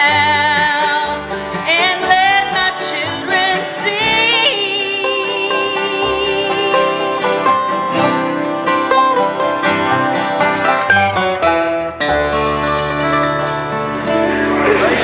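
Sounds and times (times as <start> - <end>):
acoustic guitar: 0.0 - 15.0
fast banjo picking: 0.0 - 15.0
mandolin: 0.0 - 15.0
upright bass: 0.0 - 15.0.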